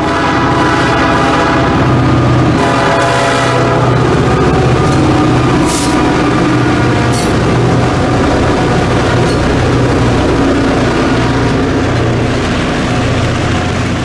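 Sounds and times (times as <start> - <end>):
locomotive rumbling: 0.0 - 14.0
low engine drone: 0.0 - 14.0.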